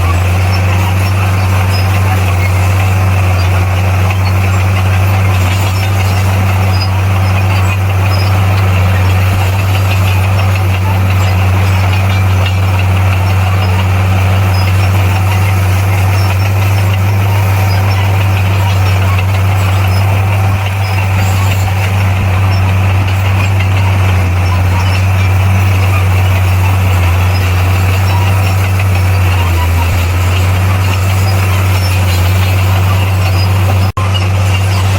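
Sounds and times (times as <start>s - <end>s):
diesel engine humming: 0.0s - 34.9s.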